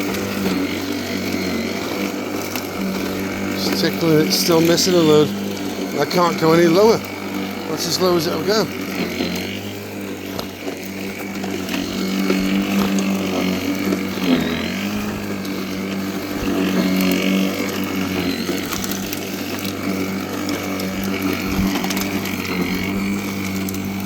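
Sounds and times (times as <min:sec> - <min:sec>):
lawnmower cutting grass: 0:00.0 - 0:24.0.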